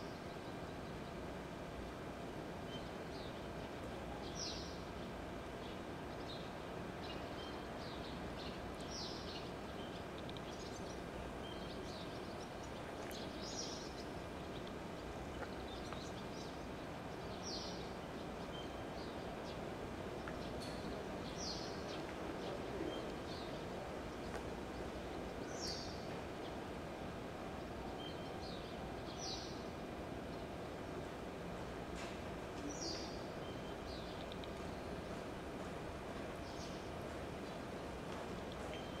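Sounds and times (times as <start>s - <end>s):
outdoor background noise: 0.0s - 39.0s
songbirds calling: 2.0s - 39.0s.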